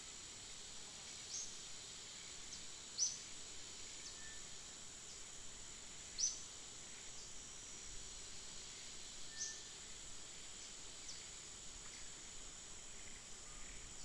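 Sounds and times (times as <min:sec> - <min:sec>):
high-pitched insect drone: 0:00.1 - 0:14.0.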